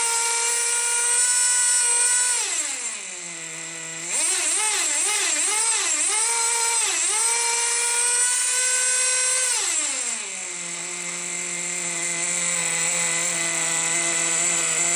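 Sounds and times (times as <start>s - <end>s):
small engine revving and idling: 0.0s - 14.9s.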